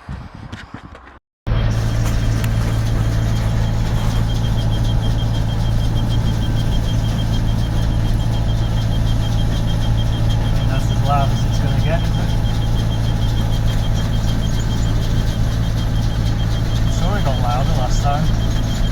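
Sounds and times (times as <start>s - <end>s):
tractor engine running: 1.5s - 18.9s
high-pitched ticking squeak: 1.9s - 18.9s.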